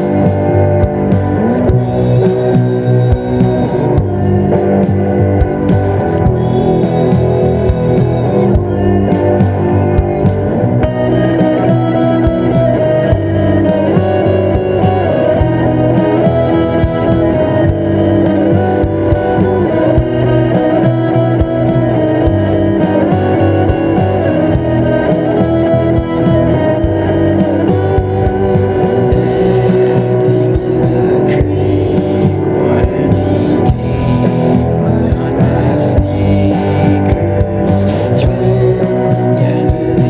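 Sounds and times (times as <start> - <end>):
alternative rock song: 0.0 - 40.0.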